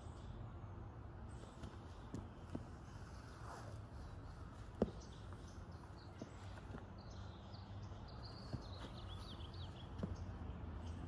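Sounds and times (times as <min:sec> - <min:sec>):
small birds chirping: 0:01.1 - 0:11.0.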